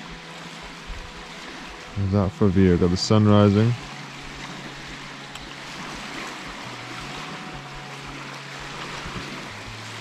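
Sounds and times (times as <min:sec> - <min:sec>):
small waves lapping on shore: 0:00.0 - 0:10.0
wind rustling through trees: 0:00.0 - 0:10.0.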